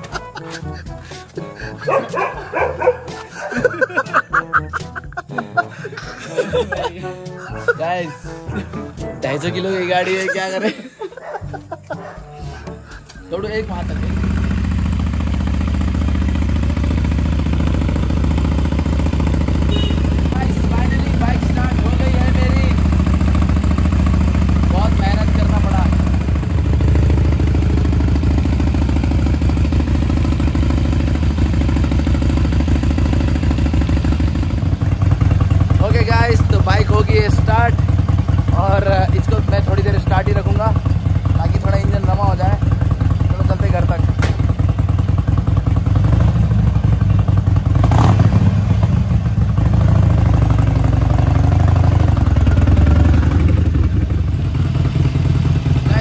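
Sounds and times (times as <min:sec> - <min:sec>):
motorcycle engine idling: 0:00.0 - 0:10.6, 0:11.2 - 0:56.0.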